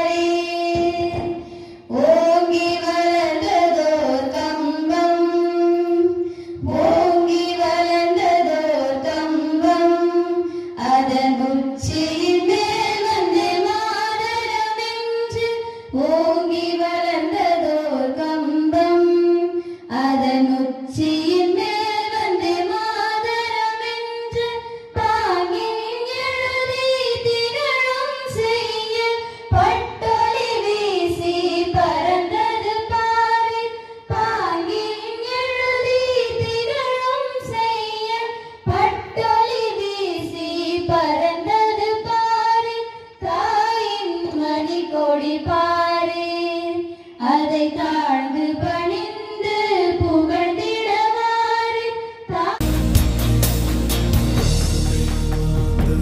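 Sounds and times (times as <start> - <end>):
girls singing into microphone: 0.0 - 52.6.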